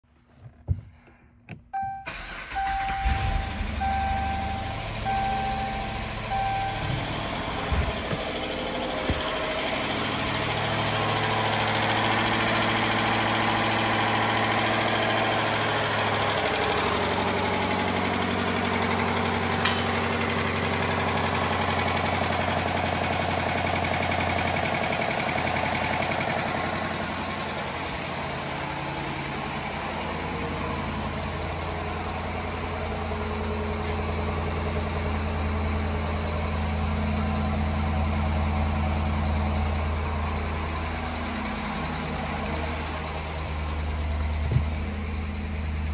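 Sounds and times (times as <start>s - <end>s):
car engine idling: 1.8s - 45.9s.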